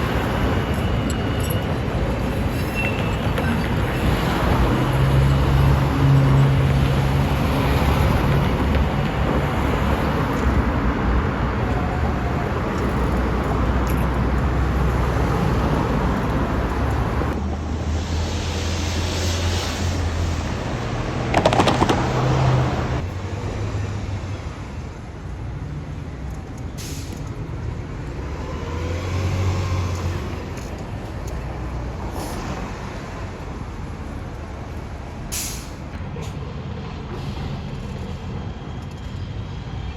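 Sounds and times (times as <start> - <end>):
bus engine passing: 0.0 - 39.9
street traffic: 0.0 - 39.9.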